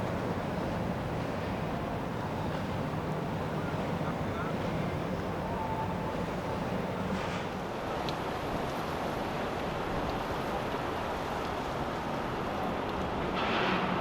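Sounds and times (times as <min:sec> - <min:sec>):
boat traffic: 0:00.0 - 0:14.0
wind: 0:00.0 - 0:14.0.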